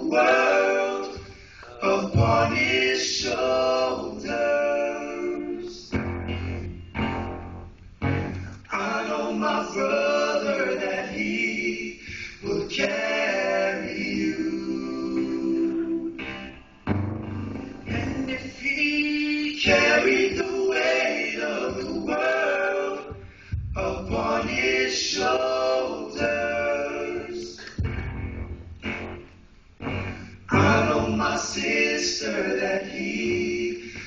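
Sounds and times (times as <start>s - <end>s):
group of voices singing: 0.0s - 6.7s, 8.6s - 16.4s, 17.6s - 27.9s, 30.0s - 34.0s.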